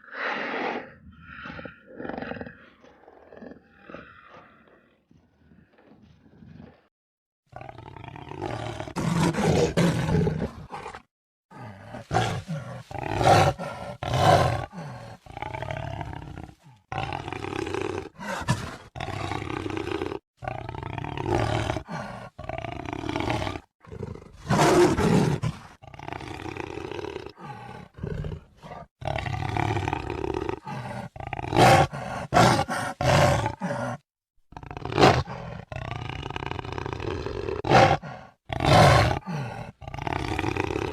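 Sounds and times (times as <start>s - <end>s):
jaguar roaring: 7.6s - 34.0s, 34.6s - 40.9s.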